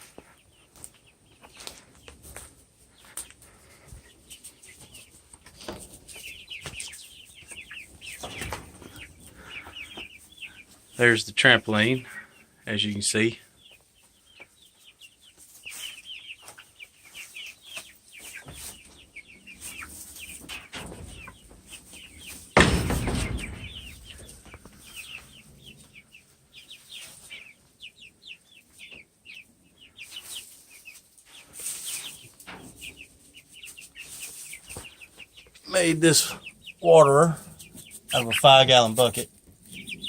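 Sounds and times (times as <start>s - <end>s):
chickens clucking and chirping: 0.0s - 40.0s.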